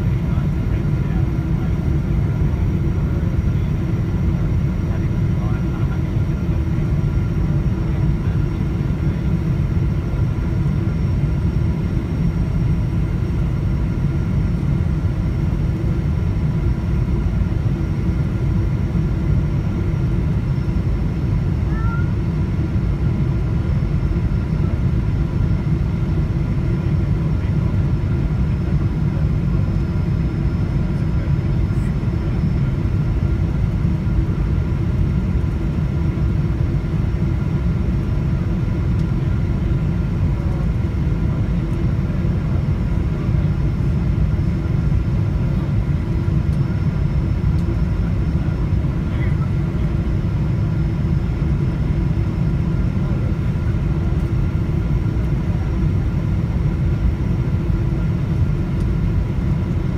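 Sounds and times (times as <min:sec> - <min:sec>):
deep rumble of jet engine and airflow: 0:00.0 - 0:59.9.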